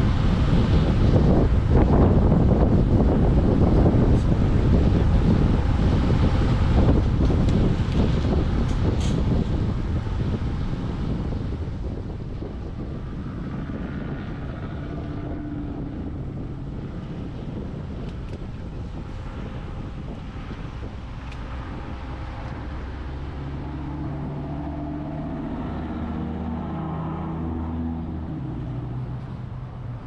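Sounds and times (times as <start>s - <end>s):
car engine hum: 0.0s - 30.0s
road rumble: 0.0s - 30.0s.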